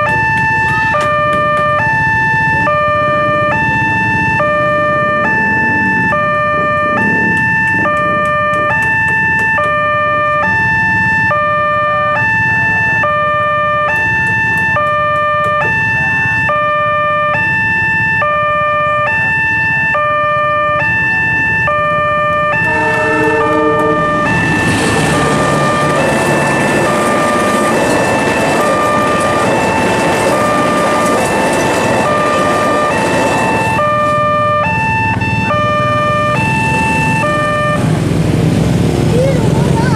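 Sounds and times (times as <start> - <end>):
train rumble: 0.0 - 16.6, 21.1 - 39.9
two-note electronic warning alarm: 0.0 - 37.8.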